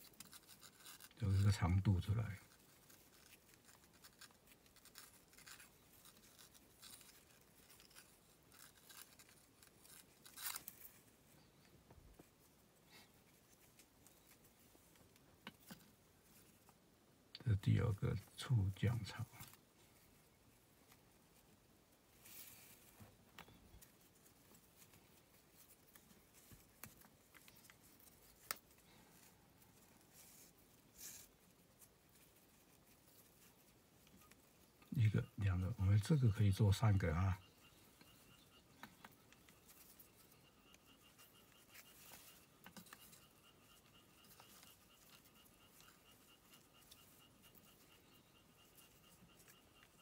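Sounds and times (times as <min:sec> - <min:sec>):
cord rustling and scraping: 0:00.0 - 0:16.8, 0:17.7 - 0:50.0.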